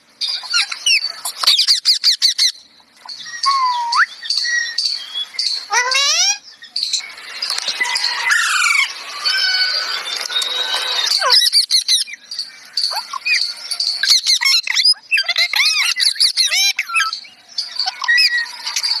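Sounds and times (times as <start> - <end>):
parrot chirping and squawking: 0.2 - 6.4, 7.0 - 12.2, 12.8 - 19.0.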